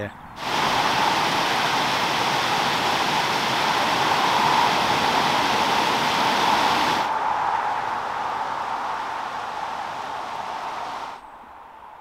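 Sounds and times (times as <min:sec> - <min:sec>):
water rushing over a weir: 0:00.4 - 0:11.2.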